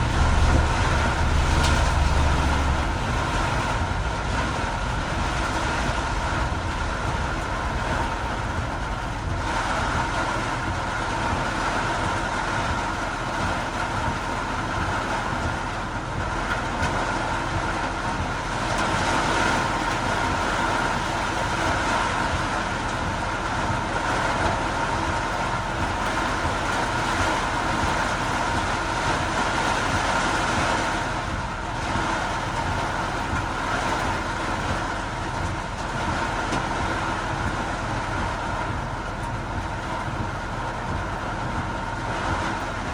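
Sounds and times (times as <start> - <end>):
heavy rain: 0.0 - 42.9
low rumble of traffic: 0.0 - 42.9
vehicles on a wet road: 0.0 - 42.9.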